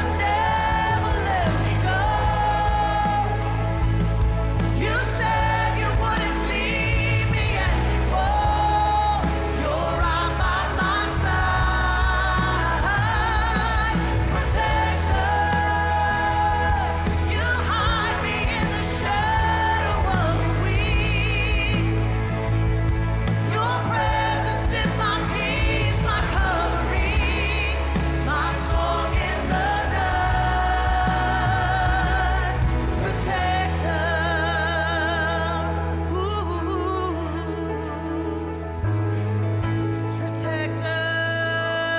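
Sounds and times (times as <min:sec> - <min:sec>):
low musical accompaniment: 0:00.0 - 0:41.9
person singing with vibrato: 0:00.0 - 0:41.9
worship band playing: 0:00.0 - 0:41.9.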